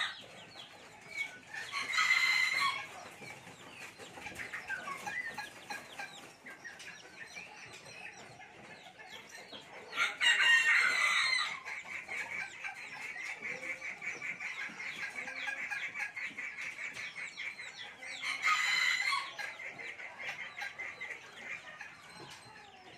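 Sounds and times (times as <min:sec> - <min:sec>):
soft clucking: 0:00.0 - 0:22.9.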